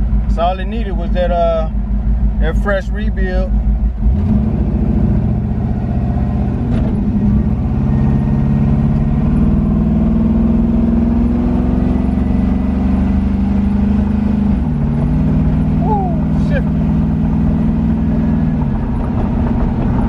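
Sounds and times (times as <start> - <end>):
car engine: 0.0 - 20.0.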